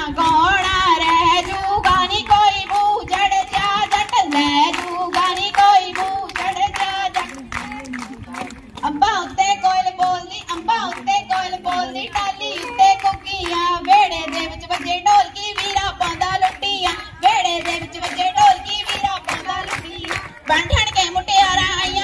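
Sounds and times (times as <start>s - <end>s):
girls singing folk verse: 0.0s - 22.0s
rhythmic hand-clapping: 0.0s - 22.0s.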